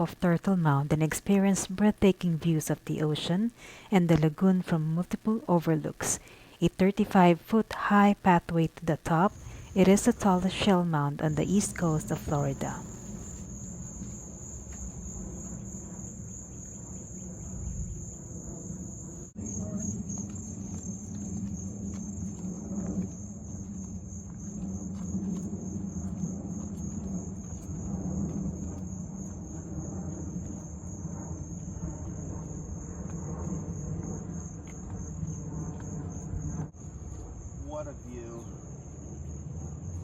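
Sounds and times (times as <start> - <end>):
insects trilling: 7.2 - 40.0.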